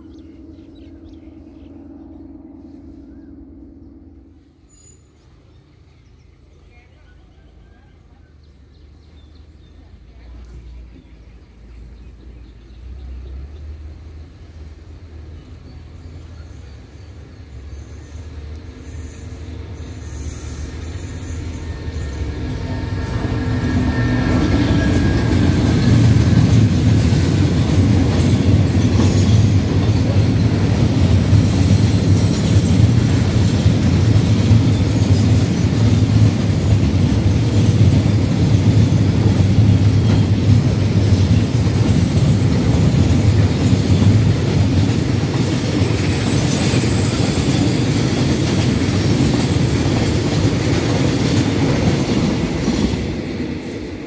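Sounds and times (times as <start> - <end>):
freight train passing: 0.0 - 54.0
train wheels rumbling on rails: 8.9 - 54.0.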